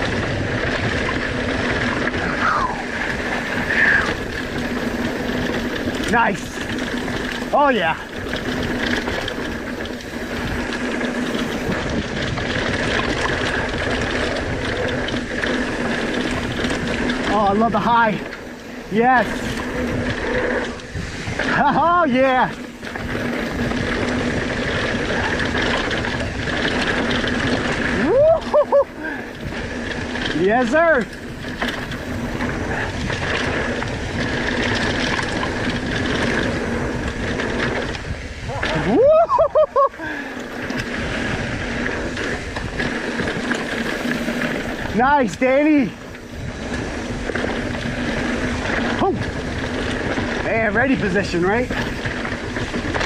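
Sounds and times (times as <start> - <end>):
bike rattling over bumps: 0.0 - 53.0
freewheel hub buzzing: 0.0 - 53.0
tyre noise on dirt: 0.0 - 53.0
wind rush: 0.0 - 53.0.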